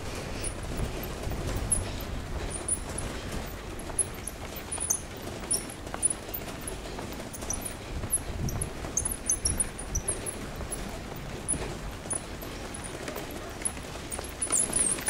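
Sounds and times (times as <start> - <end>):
pram wheels rolling over bricks: 0.0 - 15.0.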